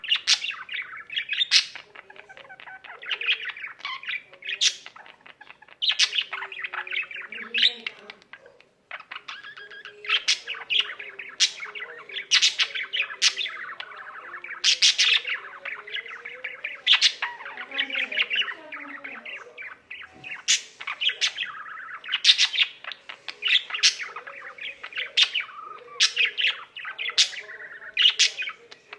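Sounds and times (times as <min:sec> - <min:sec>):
budgerigar warbling: 0:00.0 - 0:28.9.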